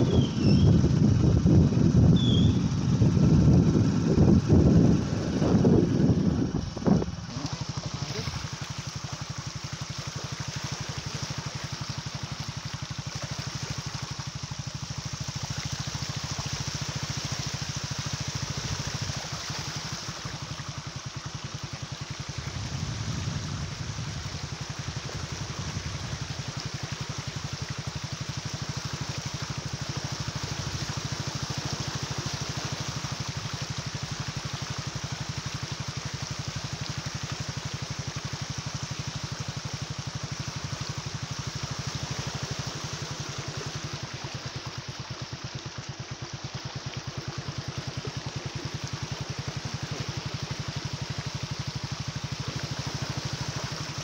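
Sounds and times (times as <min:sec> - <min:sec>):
small engine running: 0:00.0 - 0:54.0
water and wind hissing: 0:00.0 - 0:54.0.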